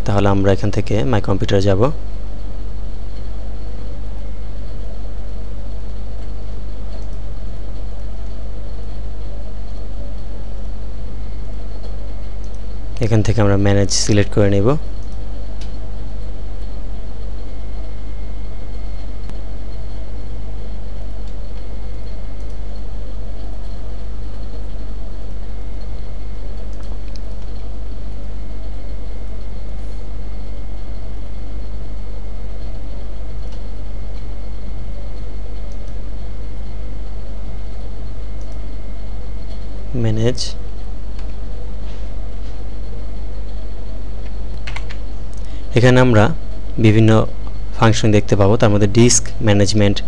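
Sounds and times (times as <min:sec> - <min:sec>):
electrical hum with hiss: 0:00.0 - 0:50.0.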